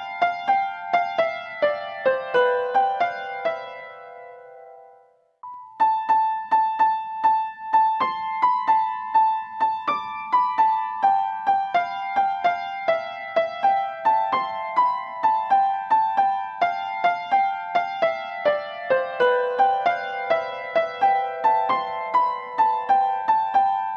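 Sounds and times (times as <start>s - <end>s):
high-pitched piano melody: 0.0s - 23.9s.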